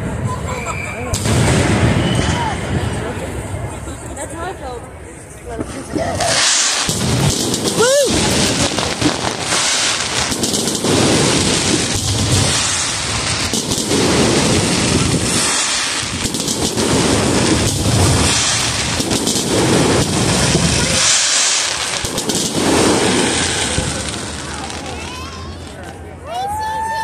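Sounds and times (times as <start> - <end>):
fireworks low booms: 0.0 - 4.1, 5.5 - 26.2
fireworks crackling: 0.0 - 4.8, 5.5 - 26.9.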